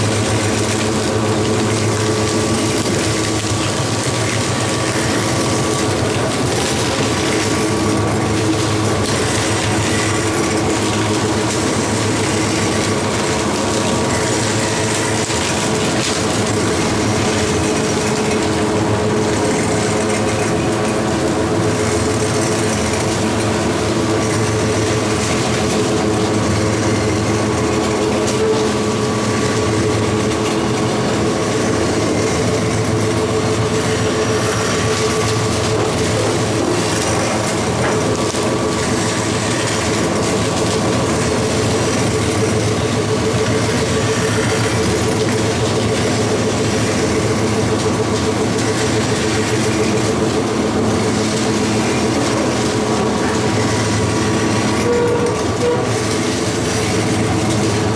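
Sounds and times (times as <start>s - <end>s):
cane crusher mill running: 0.0s - 57.9s.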